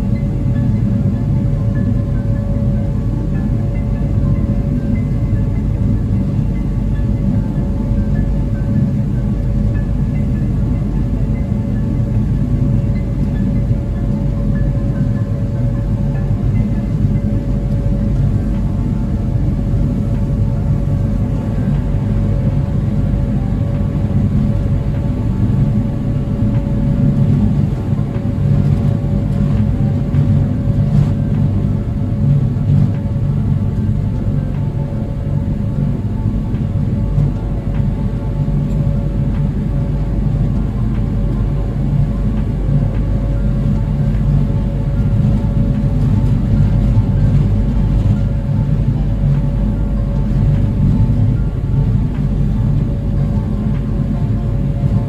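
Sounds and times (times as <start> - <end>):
ferry engines droning: 0.0 - 55.0
held hum: 0.0 - 55.0.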